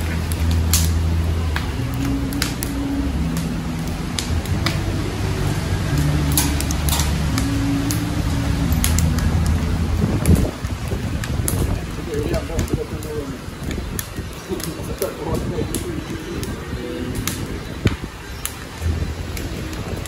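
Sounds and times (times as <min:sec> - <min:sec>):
fire pops: 0:00.0 - 0:20.0
low drone of deep tones: 0:00.0 - 0:20.0
wood fire crackling: 0:00.0 - 0:20.0.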